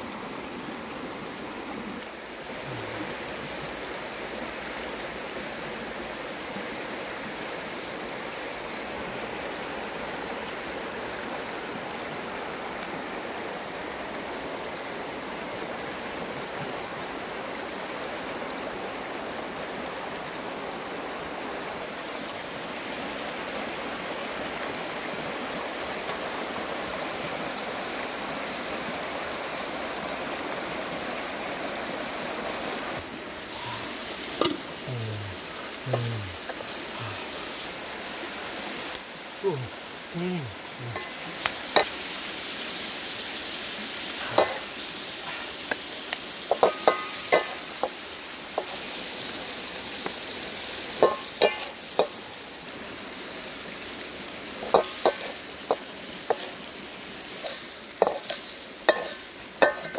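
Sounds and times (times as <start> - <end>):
river running over stones: 0.0 - 59.9.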